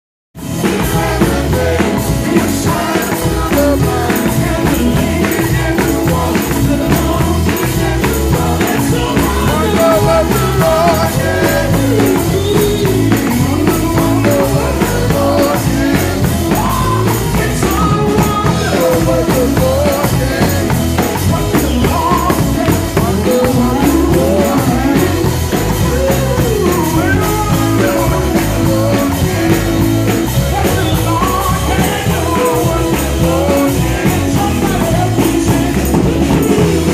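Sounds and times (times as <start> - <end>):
instrumental accompaniment with beat: 0.4 - 36.9
person singing gospel: 0.4 - 36.9.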